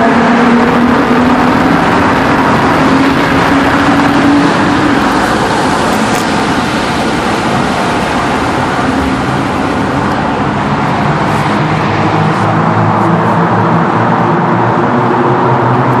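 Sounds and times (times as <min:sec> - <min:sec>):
car engine running in tunnel: 0:00.0 - 0:16.0.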